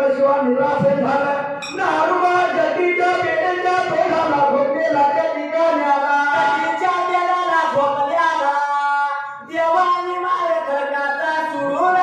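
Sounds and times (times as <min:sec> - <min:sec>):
men singing devotional song: 0:00.0 - 0:12.0.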